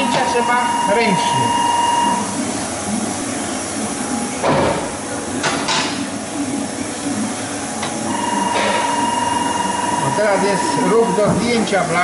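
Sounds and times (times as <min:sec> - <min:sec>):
printing press machine hum: 0:00.0 - 0:12.0.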